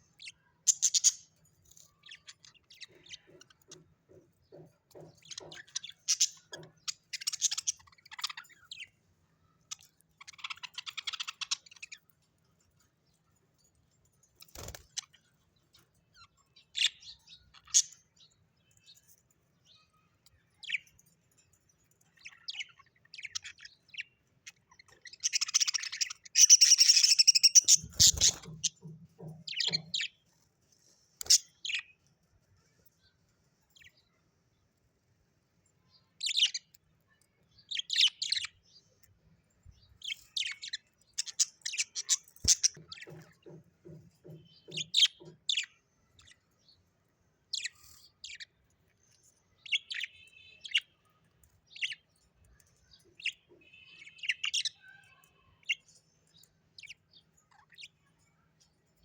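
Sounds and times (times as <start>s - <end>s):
birds chirping and calling: 0.0s - 34.8s, 35.6s - 59.0s.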